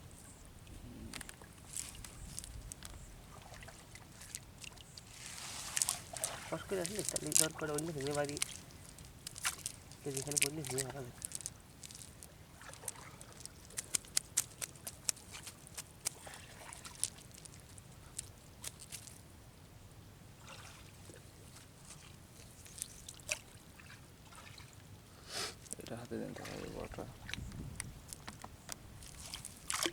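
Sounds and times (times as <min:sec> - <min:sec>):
water trickling and sloshing: 0:00.6 - 0:19.3, 0:20.3 - 0:29.9.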